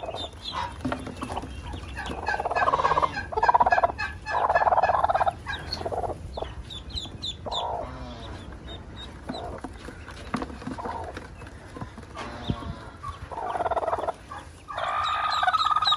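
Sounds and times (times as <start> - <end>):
ducklings peeping: 0.0 - 15.9.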